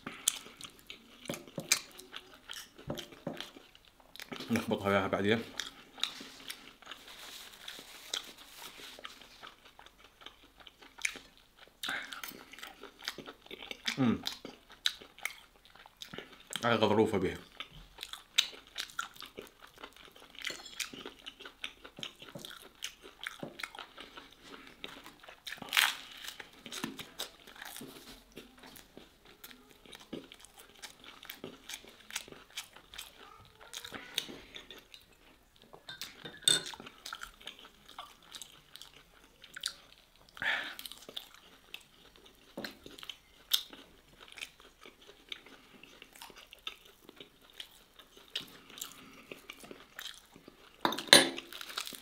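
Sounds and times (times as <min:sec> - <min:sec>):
chewing and crunching: 0:00.0 - 0:52.0.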